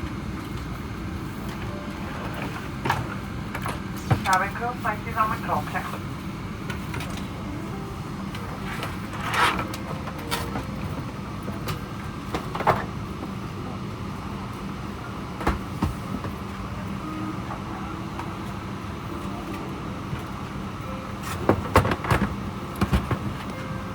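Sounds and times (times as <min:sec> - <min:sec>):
airplane cabin hum: 0:00.0 - 0:23.9.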